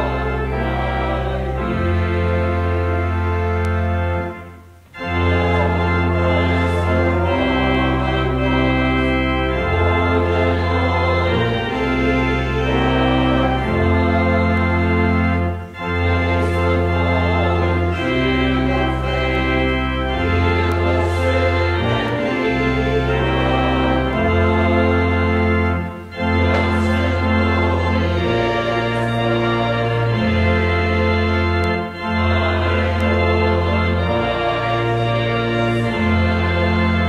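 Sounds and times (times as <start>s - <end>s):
church organ chords: 0.0s - 37.0s.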